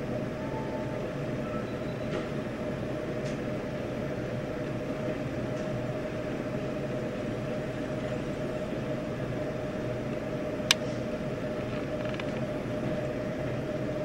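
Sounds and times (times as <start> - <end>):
steady hum and hiss: 0.0 - 14.0.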